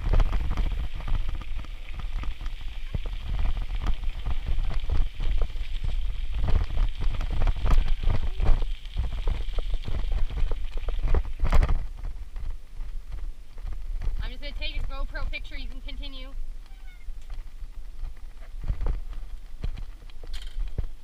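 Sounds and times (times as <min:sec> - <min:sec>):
crackling clicks of rolling tyres: 0:00.0 - 0:21.0
low wind rumble on microphone: 0:00.0 - 0:21.0.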